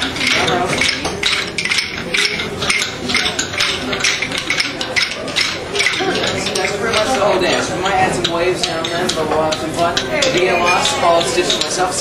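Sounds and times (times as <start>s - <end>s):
wooden sticks clacking together: 0.0s - 12.0s.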